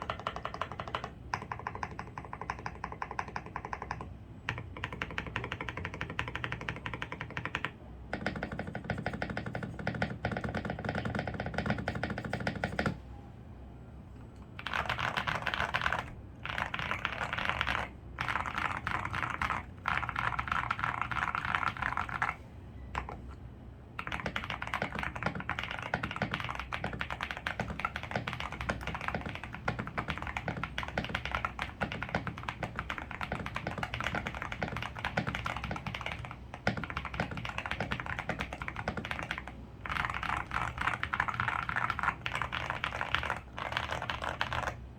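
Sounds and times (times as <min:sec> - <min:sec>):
typing on mechanical keyboard: 0:00.0 - 0:13.0, 0:14.6 - 0:23.3, 0:24.0 - 0:44.8.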